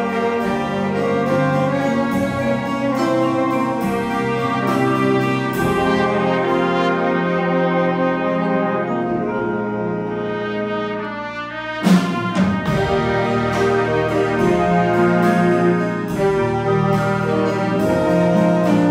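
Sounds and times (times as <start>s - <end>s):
drums and cymbals: 0.0s - 8.2s, 11.7s - 18.9s
big band jazz playing: 0.0s - 18.9s.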